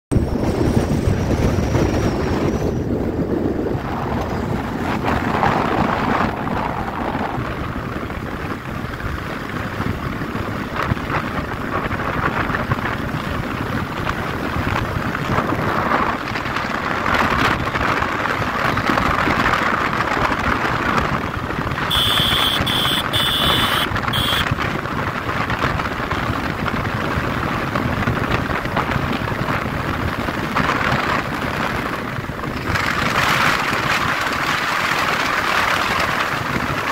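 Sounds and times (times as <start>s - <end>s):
motorcycle running: 0.1s - 36.9s
wind buffeting microphone: 0.1s - 36.9s.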